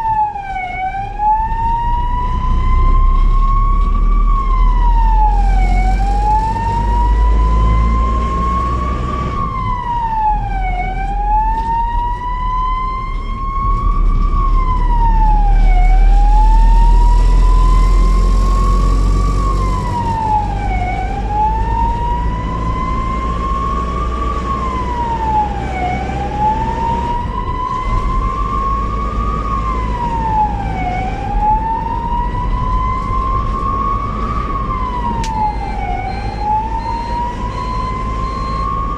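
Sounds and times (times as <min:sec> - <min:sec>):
ambulance siren wailing: 0:00.0 - 0:38.9
engine and road noise rumble: 0:00.0 - 0:38.9.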